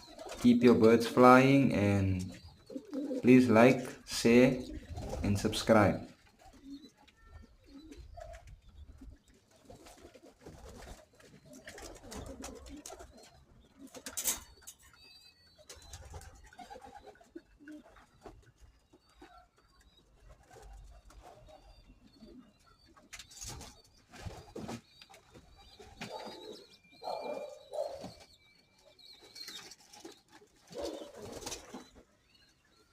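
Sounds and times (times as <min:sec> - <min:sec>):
pigeons cooing softly: 0:00.0 - 0:32.9.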